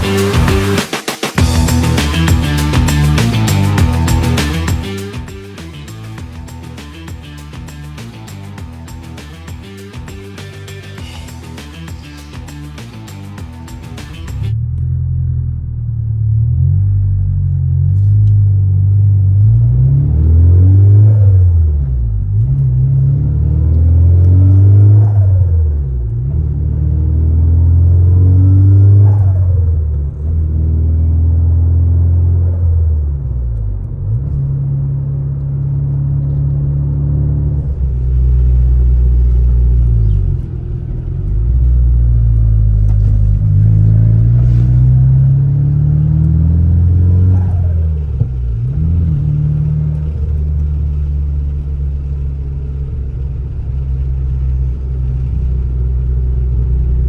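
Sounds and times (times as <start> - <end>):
car engine revving through gears: 0.0 - 15.4, 16.2 - 57.0.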